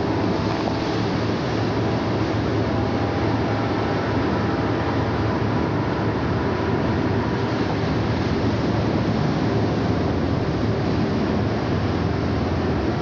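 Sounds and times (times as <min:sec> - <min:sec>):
boat diesel engine rumble: 0:00.0 - 0:13.0
low hum: 0:00.0 - 0:13.0.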